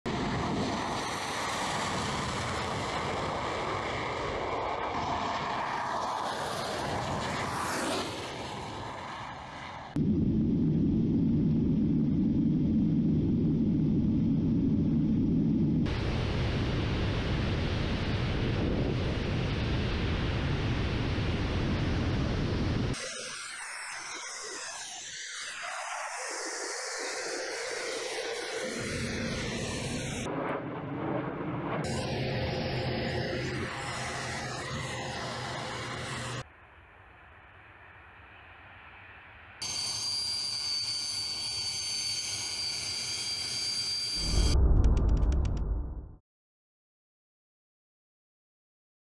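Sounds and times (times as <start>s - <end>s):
jet engines roaring: 0.1s - 45.6s.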